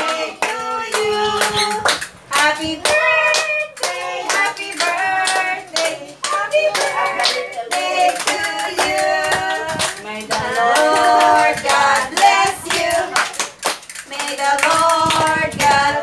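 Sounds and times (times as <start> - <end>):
clap-like hits in beat: 0.0 - 15.8.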